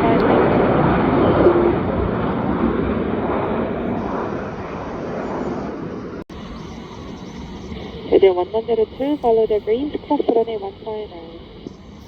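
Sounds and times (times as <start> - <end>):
jet engines at takeoff: 0.0 - 12.0.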